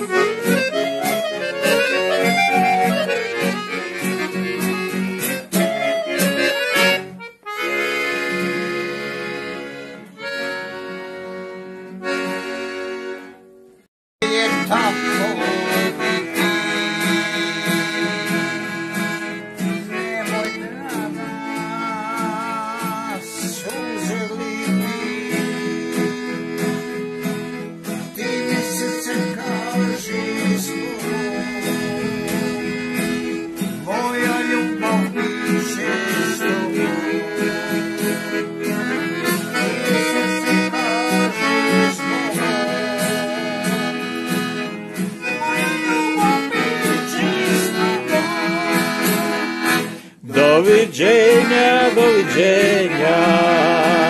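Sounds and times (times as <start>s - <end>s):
accordion chords: 0.0s - 54.0s
strummed acoustic guitar: 0.0s - 54.0s.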